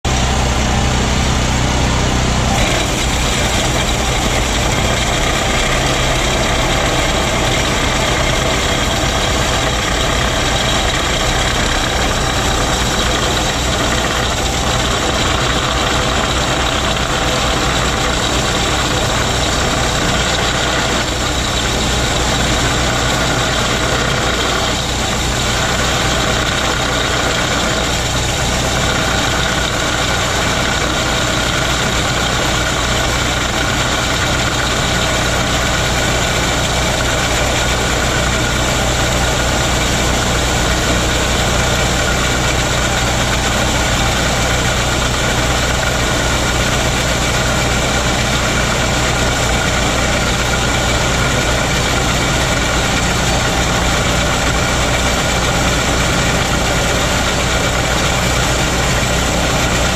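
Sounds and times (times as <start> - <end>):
boring machine engine drone: 0.0 - 59.9.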